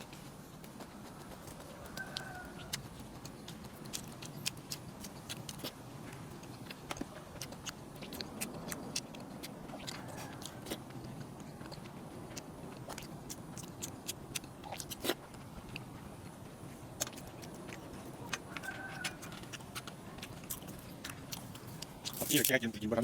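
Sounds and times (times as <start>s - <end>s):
low steady background noise: 0.0s - 23.0s
person chewing with crunches: 0.0s - 23.0s.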